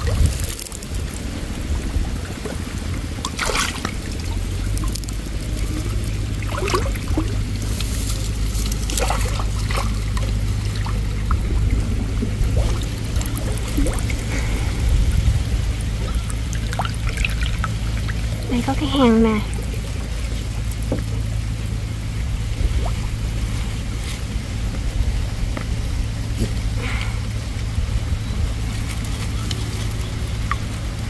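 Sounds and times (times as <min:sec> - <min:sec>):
low rumble: 0:00.0 - 0:31.0
water sloshing and trickling: 0:00.0 - 0:31.0
water splashes: 0:00.0 - 0:31.0.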